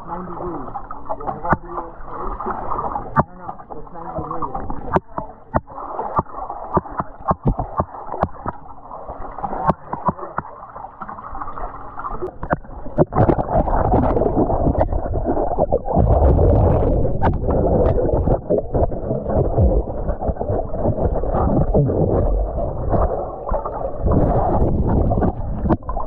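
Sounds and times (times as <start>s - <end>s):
muffled underwater sloshing: 0.0s - 26.0s
underwater clicks and knocks: 1.1s - 1.8s, 2.4s - 8.7s, 9.4s - 11.3s, 12.2s - 26.0s.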